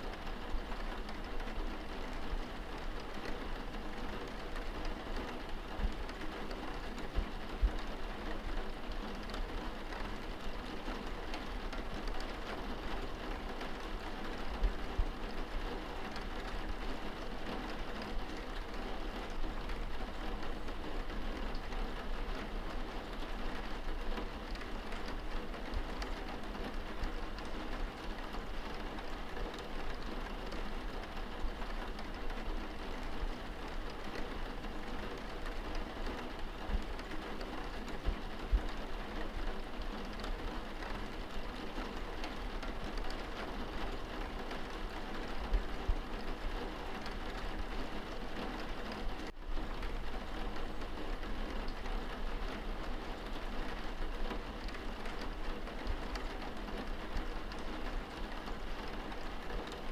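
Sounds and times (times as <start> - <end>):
rain on window glass: 0.0 - 59.9.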